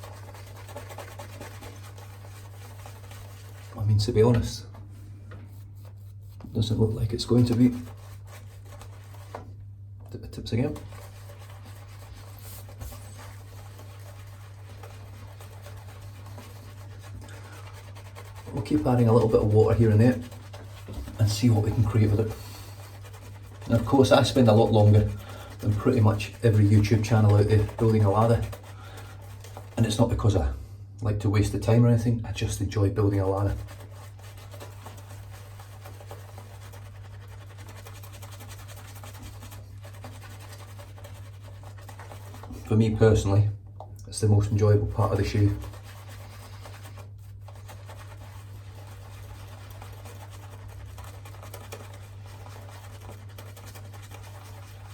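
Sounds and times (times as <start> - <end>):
shaving brush scratching: 0.0 - 4.8, 5.4 - 9.6, 10.3 - 30.4, 33.0 - 43.3, 44.4 - 54.9
steady low hum: 0.0 - 54.9.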